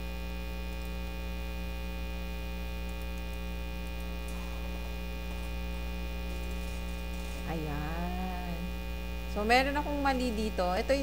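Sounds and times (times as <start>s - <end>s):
buzzy electrical mains hum: 0.0s - 11.0s.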